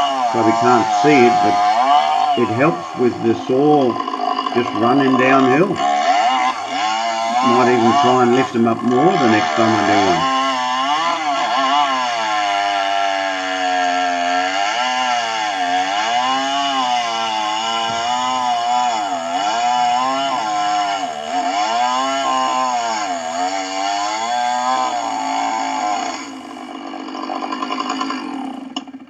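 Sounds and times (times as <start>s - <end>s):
chainsaw ripping a log: 0.0s - 29.0s.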